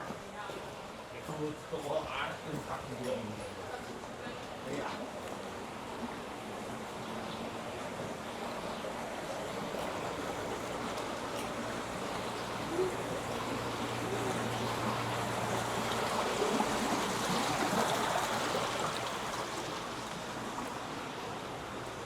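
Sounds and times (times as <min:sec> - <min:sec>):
running water rushing: 0:00.1 - 0:22.0.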